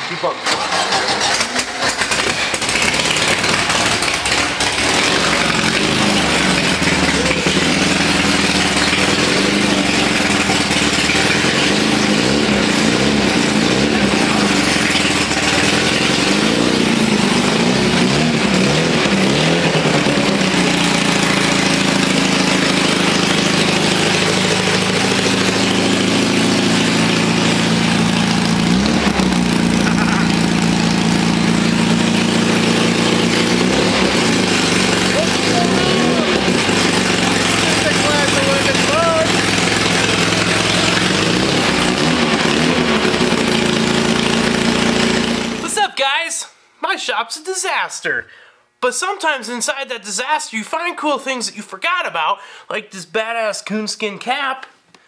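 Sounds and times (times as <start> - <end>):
race car engine revving: 0.0 - 45.7.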